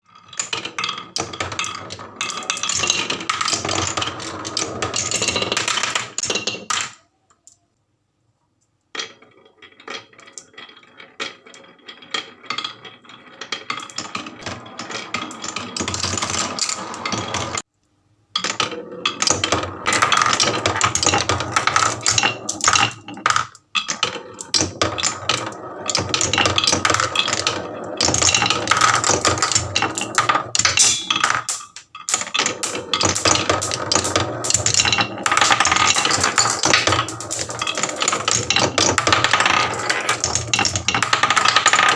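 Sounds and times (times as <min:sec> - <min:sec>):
marbles rattling down wooden run: 0:00.1 - 0:07.1, 0:09.0 - 0:17.7, 0:18.4 - 0:41.9.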